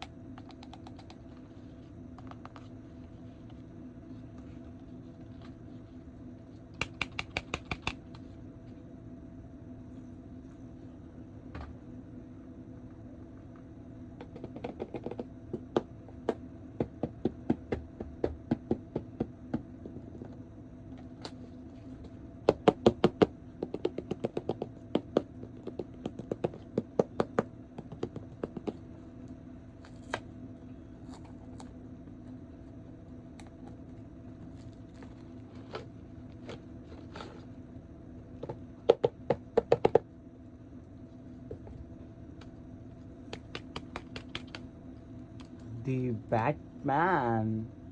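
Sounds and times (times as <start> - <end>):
steady hum: 0.0 - 47.9.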